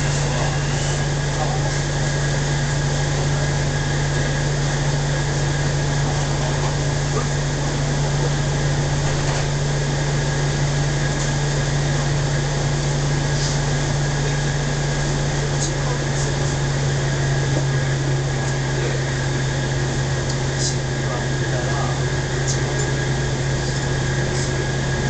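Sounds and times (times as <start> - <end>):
electric train interior hum: 0.0 - 25.0
train running and ventilation noise: 0.0 - 25.0.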